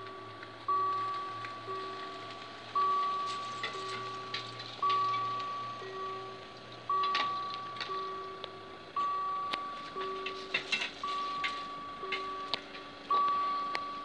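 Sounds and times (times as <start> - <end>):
two-tone crossing bell: 0.0 - 14.0.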